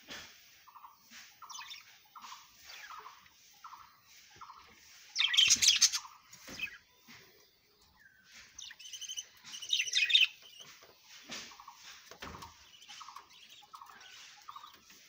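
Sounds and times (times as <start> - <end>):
budgerigars chattering and squawking: 0.6 - 7.3, 8.1 - 15.0.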